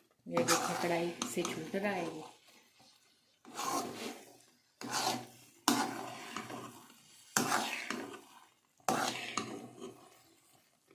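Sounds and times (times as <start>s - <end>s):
spatula scraping a pan: 0.0s - 10.9s.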